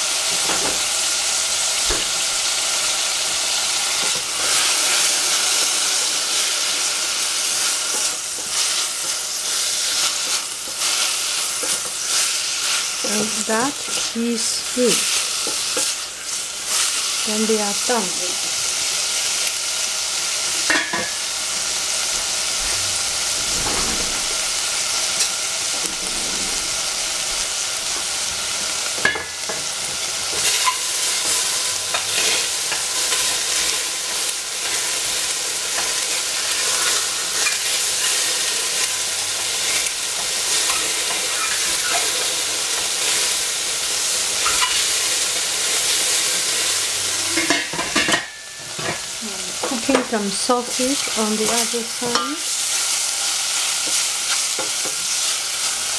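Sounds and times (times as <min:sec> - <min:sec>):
mushrooms sizzling in oil: 0:00.0 - 0:55.9.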